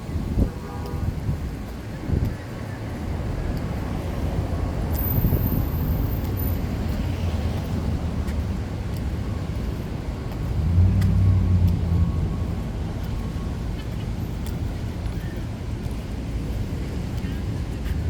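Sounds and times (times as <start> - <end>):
rumble of passing cars: 0.0 - 18.0.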